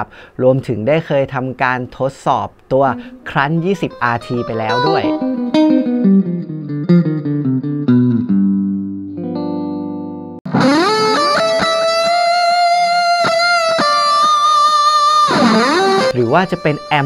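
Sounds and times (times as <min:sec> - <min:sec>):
electric guitar playing: 0:02.9 - 0:17.0.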